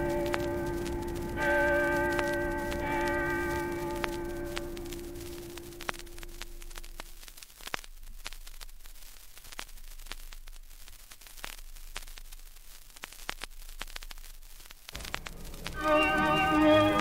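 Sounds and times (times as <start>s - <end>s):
record surface hiss: 0.0s - 17.0s
vinyl record crackles and clicks: 0.0s - 17.0s.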